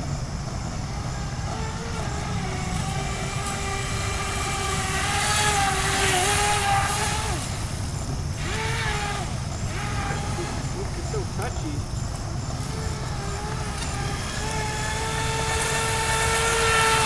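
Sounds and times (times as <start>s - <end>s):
electric motor whining: 0.0s - 17.0s
water spray hissing: 1.1s - 17.0s.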